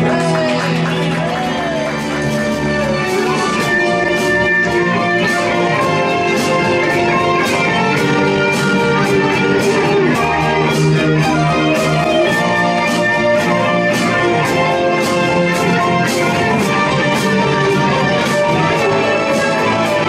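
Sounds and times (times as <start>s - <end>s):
bass: 0.0s - 20.0s
electric guitar: 0.0s - 20.0s
drums with steady cymbal beat: 1.9s - 20.0s.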